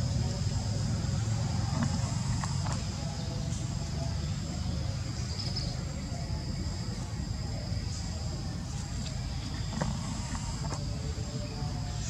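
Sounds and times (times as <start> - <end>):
insects droning: 0.0 - 12.0
low steady rumble: 0.0 - 12.0.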